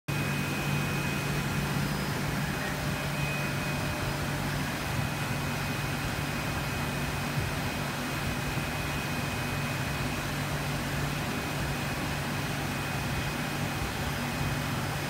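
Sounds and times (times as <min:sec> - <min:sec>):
aquarium pumps humming: 0:00.1 - 0:15.0.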